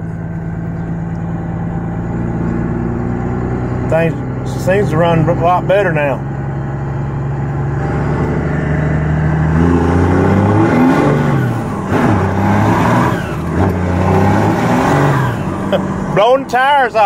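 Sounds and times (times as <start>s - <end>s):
diesel engine accelerating: 0.0s - 17.0s.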